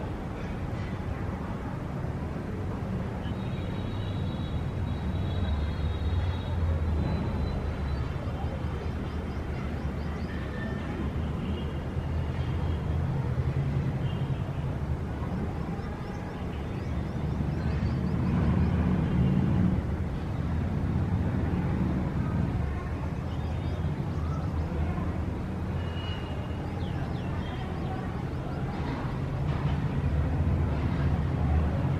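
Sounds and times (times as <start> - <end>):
road traffic rumble: 0.0 - 31.9.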